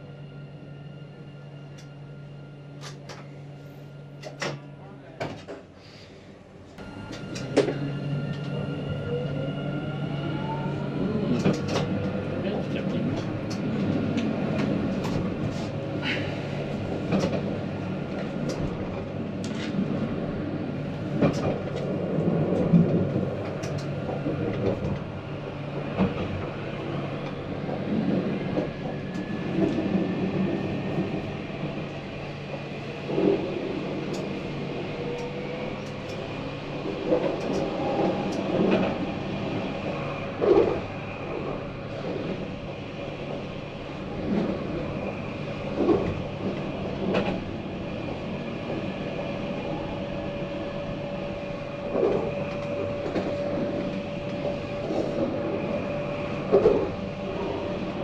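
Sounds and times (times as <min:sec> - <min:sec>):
tram rail rumble: 0:00.0 - 0:58.0.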